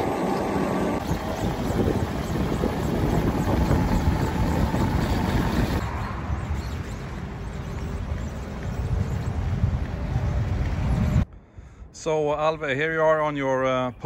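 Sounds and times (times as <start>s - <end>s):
rolling road noise: 0.0s - 11.3s
wind buffeting microphone: 0.5s - 13.2s.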